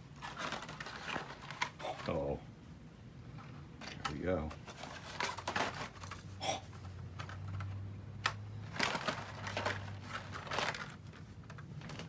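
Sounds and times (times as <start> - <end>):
plastic packaging clicking and crinkling: 0.0 - 2.3, 3.3 - 12.0
low steady hum: 0.0 - 12.0.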